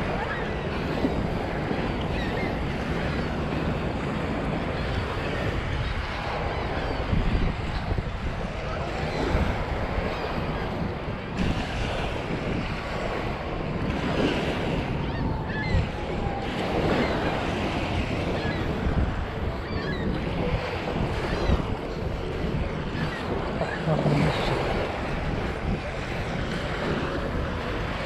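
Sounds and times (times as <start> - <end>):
waves washing onto beach: 0.0 - 28.0
wind buffeting microphone: 0.0 - 28.0.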